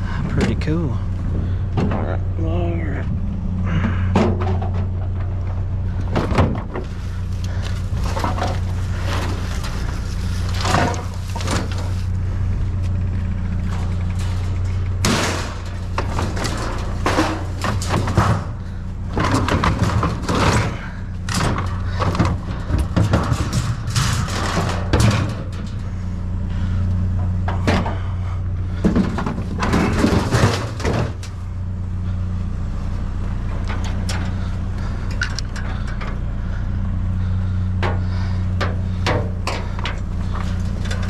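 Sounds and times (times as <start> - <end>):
engine idling: 0.0 - 41.0
scrap metal clanking and rattling: 0.0 - 41.0.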